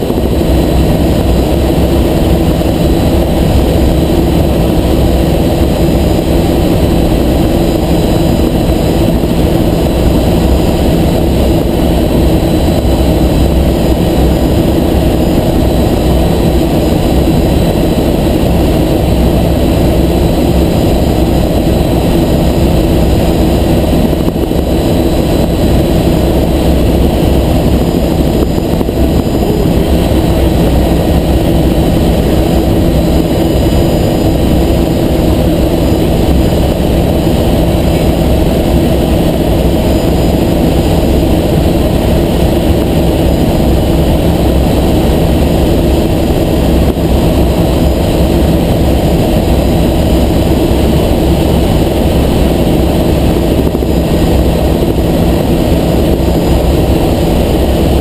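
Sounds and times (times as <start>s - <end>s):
helicopter rotor and engine drone: 0.0s - 58.0s.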